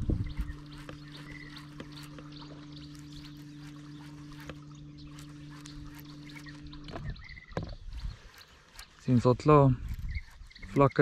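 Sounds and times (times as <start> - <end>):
electric trolling motor humming: 0.0 - 11.0.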